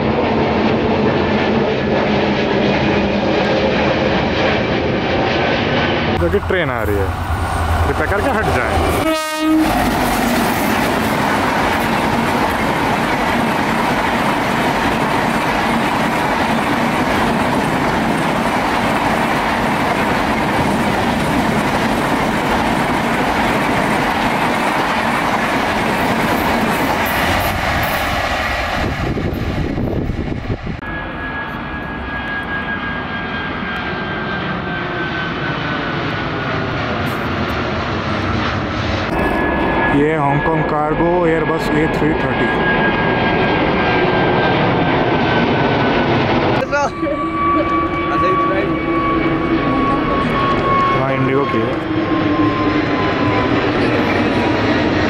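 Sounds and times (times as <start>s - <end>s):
jet airliner climbing overhead: 0.0s - 55.0s
passenger train passing at speed: 0.0s - 55.0s.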